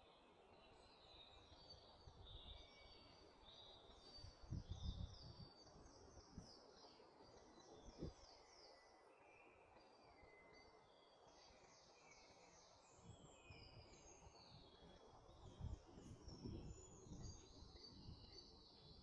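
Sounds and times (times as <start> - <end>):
woodland birdsong: 0.0 - 19.0.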